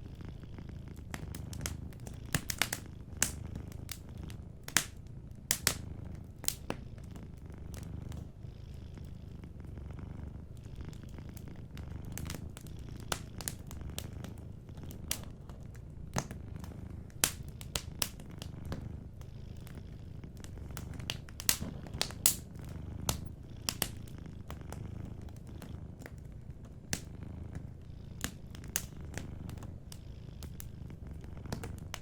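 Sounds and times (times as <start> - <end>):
cat purring: 0.0 - 32.0
wood fire crackling: 0.9 - 8.4, 9.0 - 32.0.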